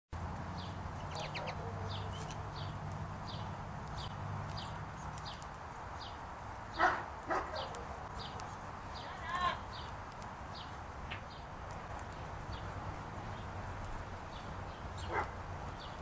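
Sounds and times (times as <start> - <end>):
sparrow chirping: 0.5 - 16.0.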